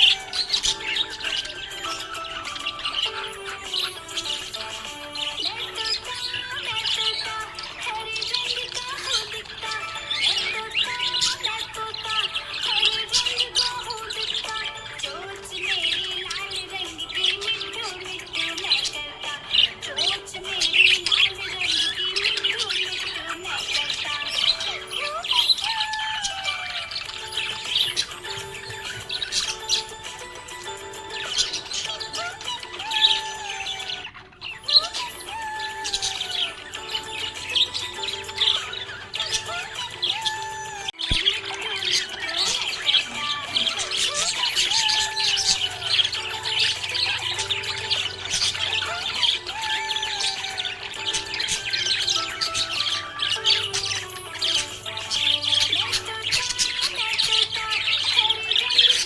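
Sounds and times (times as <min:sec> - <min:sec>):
budgerigar chirping and warbling: 0:00.0 - 0:59.0.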